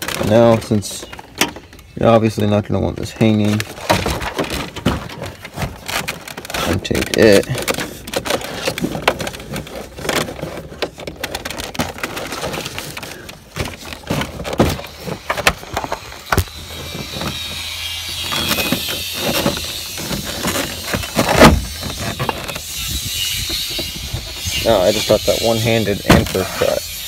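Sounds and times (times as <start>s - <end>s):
plastic and wire clicks and rustling: 0.0s - 17.6s, 18.2s - 22.7s.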